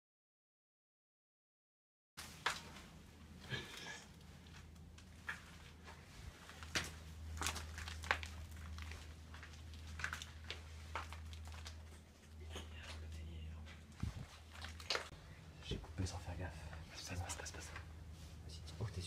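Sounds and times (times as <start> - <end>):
crackles and knocks of people moving: 2.2 - 19.0
steady low rumble: 2.2 - 19.0.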